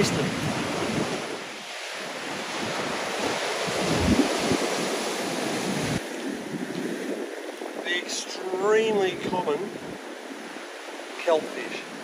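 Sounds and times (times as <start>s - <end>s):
surf breaking over rocks: 0.0s - 12.0s
wind buffeting microphone: 0.0s - 12.0s.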